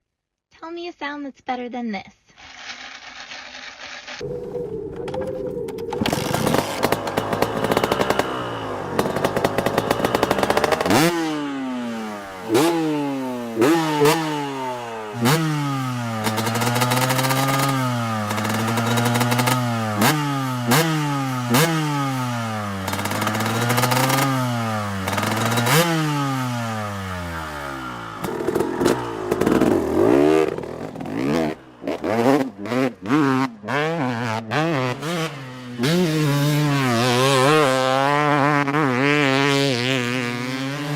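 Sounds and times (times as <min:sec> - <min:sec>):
two-stroke dirt bike revving: 0:06.0 - 0:40.9.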